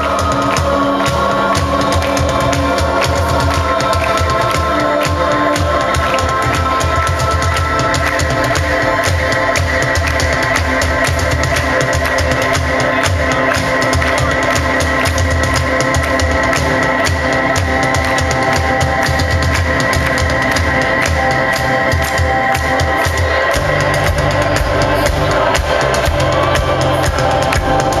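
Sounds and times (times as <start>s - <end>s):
drum kit beat: 0.0s - 28.0s.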